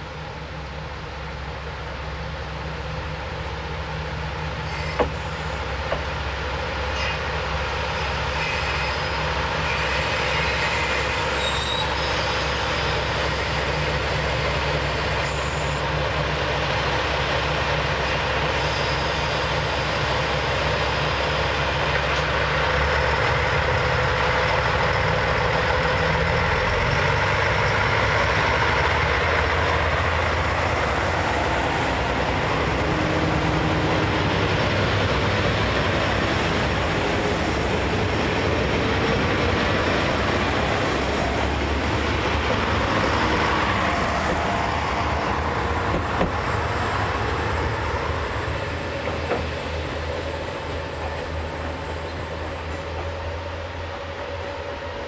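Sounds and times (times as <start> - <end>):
diesel train engine hum: 0.0 - 55.0
train wheels on rails: 0.0 - 55.0.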